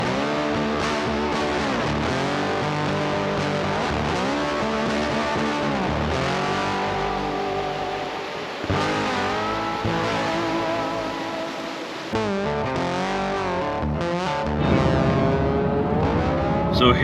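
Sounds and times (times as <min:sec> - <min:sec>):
guitar music with sliding notes: 0:00.0 - 0:17.0.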